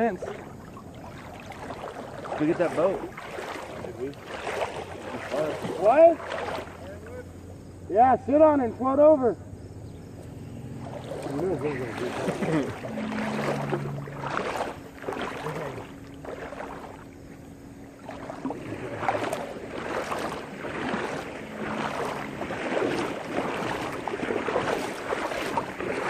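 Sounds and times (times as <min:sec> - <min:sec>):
water sloshing around wading legs: 0:00.0 - 0:07.7, 0:09.9 - 0:26.0.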